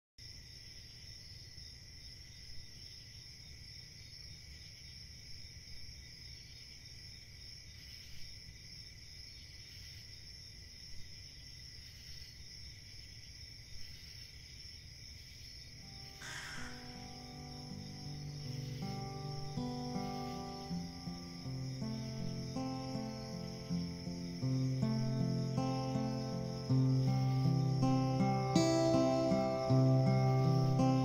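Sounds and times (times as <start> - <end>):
high insect chorus trilling: 0.2 - 31.0.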